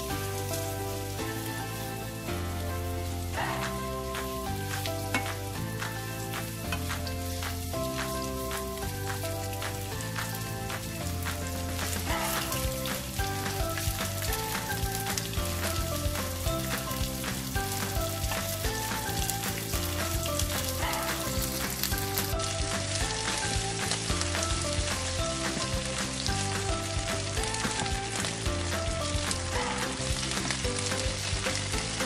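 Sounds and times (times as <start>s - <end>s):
background music: 0.0s - 32.0s
beef sizzling in hot oil: 0.0s - 32.0s.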